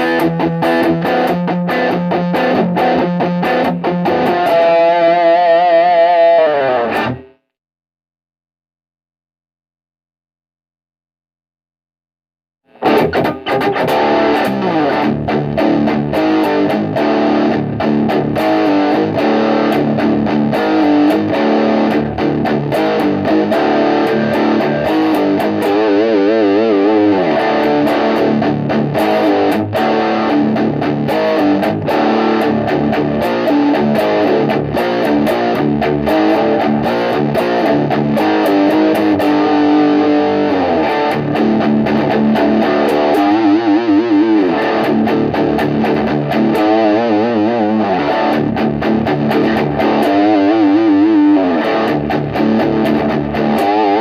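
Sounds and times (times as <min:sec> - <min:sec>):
distorted electric guitar riffing: 0:00.0 - 0:07.4, 0:12.7 - 0:54.0.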